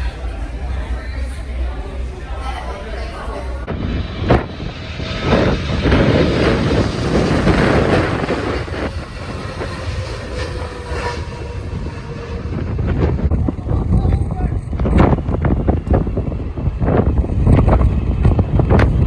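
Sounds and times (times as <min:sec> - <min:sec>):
jet airliner engine noise: 0:00.0 - 0:19.0
wind buffeting microphone: 0:00.0 - 0:19.0.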